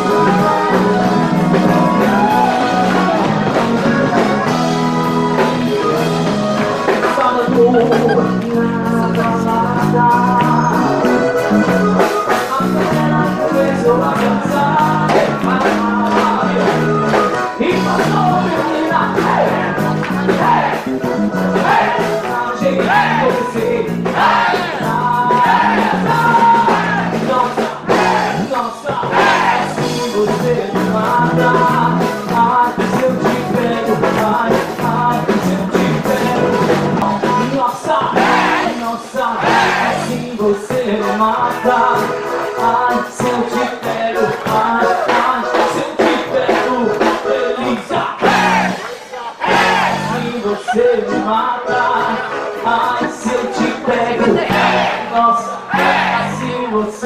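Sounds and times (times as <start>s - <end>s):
bass notes: 0.0s - 57.0s
guitar: 0.0s - 57.0s
person singing: 0.0s - 57.0s.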